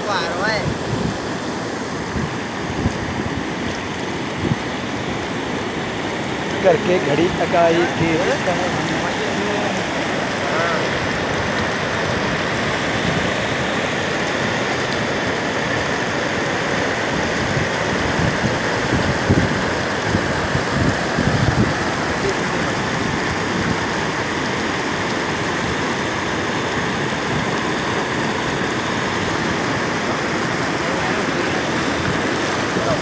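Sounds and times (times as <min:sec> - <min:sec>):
water rushing: 0:00.0 - 0:33.0.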